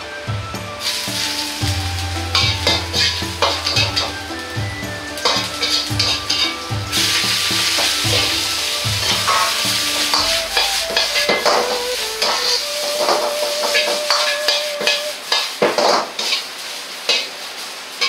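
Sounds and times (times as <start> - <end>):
metal ladle scraping wok: 0.0 - 17.3
wok clanking: 0.0 - 17.4
vegetables sizzling in oil: 0.0 - 18.0.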